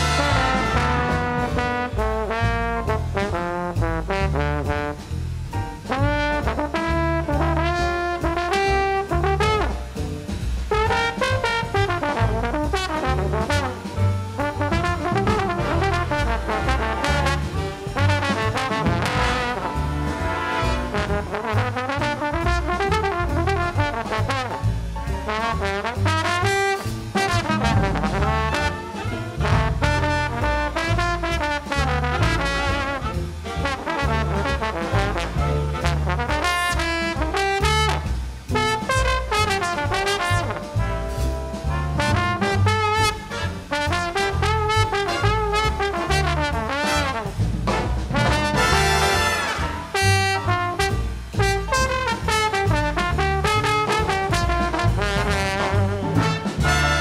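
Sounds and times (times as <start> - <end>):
drums: 0.0 - 57.0
jazz trombone solo: 0.0 - 57.0
walking bass line: 0.0 - 57.0.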